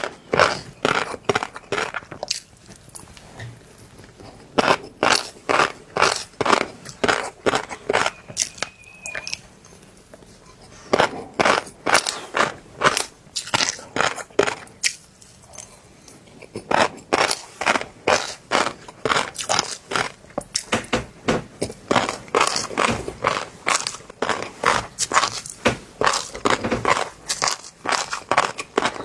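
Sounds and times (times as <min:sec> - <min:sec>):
fish roe crunching while chewing: 0:00.0 - 0:20.8, 0:21.6 - 0:29.0.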